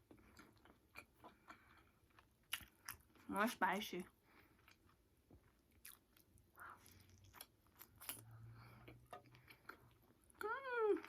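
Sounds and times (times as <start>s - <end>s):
person chewing food: 0.0s - 3.3s, 4.2s - 10.6s.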